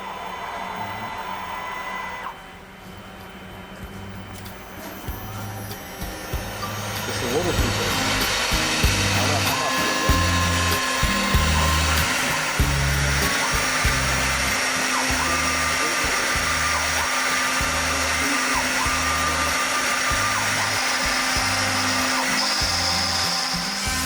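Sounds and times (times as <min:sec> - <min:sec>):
stone milling spindle whining: 0:00.0 - 0:24.0
background music with bass: 0:03.8 - 0:24.0.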